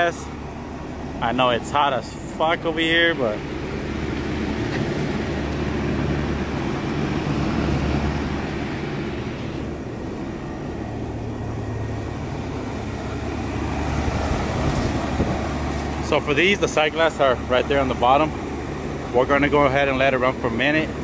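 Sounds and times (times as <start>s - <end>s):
compressor low hum: 0.0s - 21.0s
fan rush of air: 0.0s - 21.0s.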